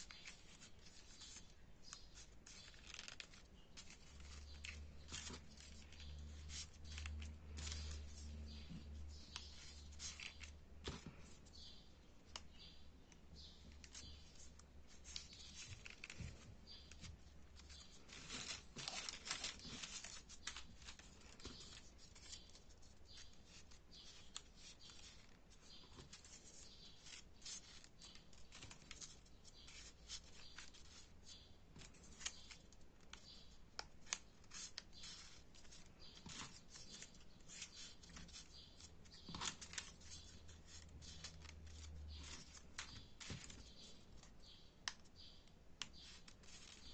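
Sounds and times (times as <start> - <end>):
paper rustling and scratching: 0.0 - 12.7, 13.3 - 46.9
small paper clicks: 0.0 - 46.9.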